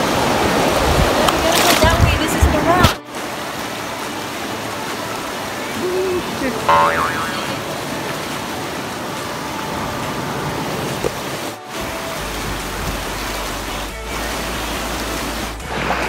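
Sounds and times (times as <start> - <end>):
whitewater rushing over rapids: 0.0 - 16.0.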